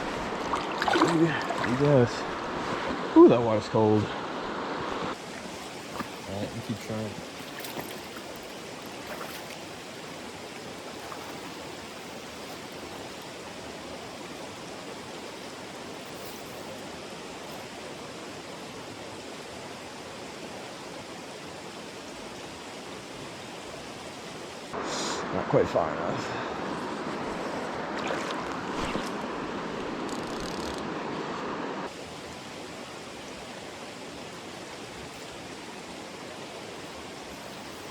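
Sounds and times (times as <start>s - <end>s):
stream water running: 0.0s - 37.9s.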